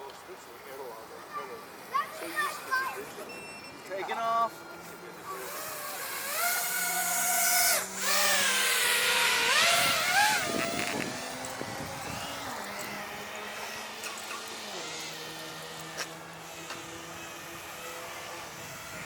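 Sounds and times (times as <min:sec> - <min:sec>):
electric motors and propellers whining: 0:01.0 - 0:19.0.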